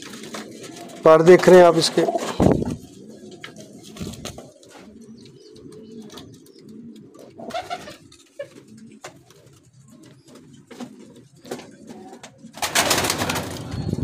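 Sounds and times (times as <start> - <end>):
pigeons cooing: 0.0 - 14.0
wings flapping: 0.0 - 14.0.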